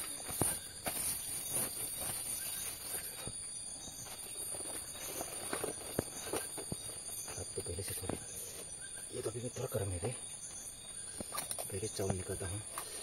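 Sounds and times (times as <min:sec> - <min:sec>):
leaves rustling and crinkling: 0:00.0 - 0:13.0
night insects chorus: 0:00.0 - 0:13.0.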